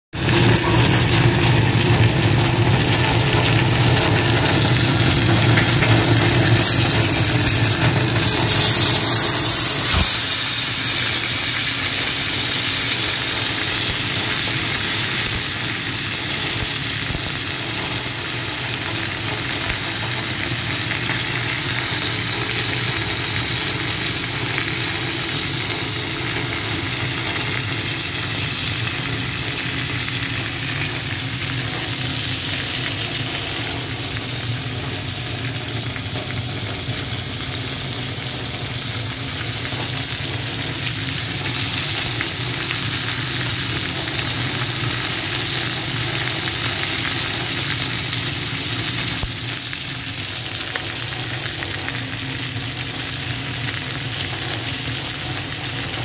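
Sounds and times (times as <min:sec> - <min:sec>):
fish sizzling in hot oil: 0:00.1 - 0:56.0.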